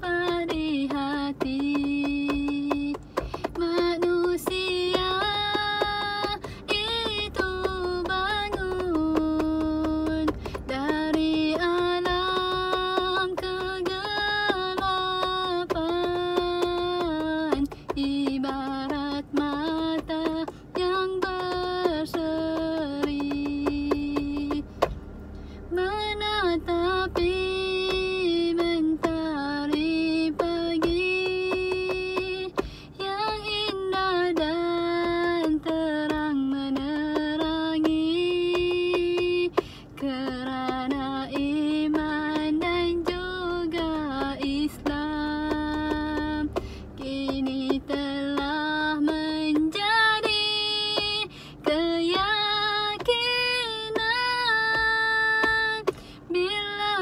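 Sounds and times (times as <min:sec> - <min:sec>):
woman singing: 0:00.0 - 0:24.7, 0:25.6 - 0:57.0
light percussion taps: 0:00.0 - 0:57.0.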